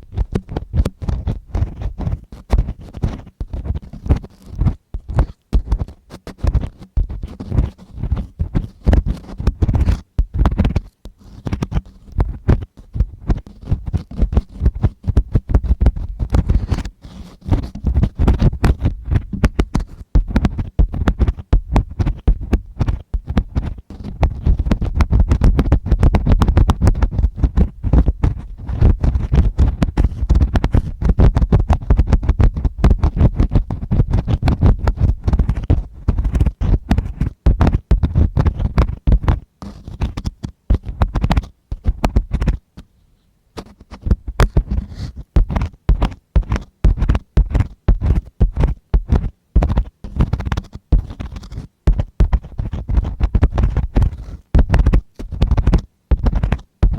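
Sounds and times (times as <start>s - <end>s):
tool scratching on microphone: 0.0s - 43.0s, 43.6s - 56.9s.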